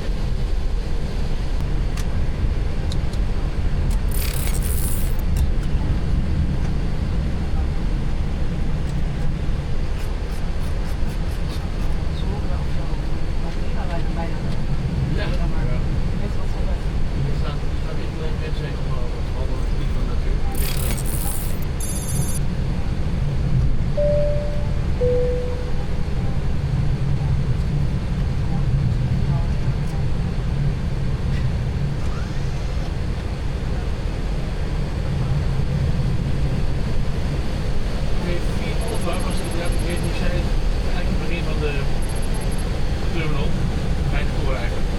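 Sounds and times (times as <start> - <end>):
airliner cockpit rumble: 0.0 - 44.9.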